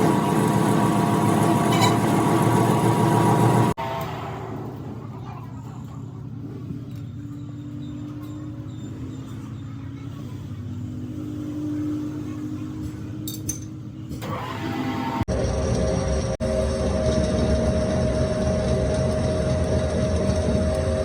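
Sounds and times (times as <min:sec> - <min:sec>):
engine running with low rumble: 0:00.0 - 0:21.0.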